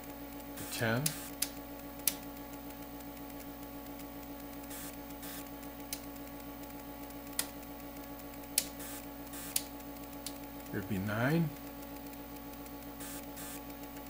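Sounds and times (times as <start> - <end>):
electrical hum: 0.0 - 14.0
sharp clicks: 0.0 - 14.0.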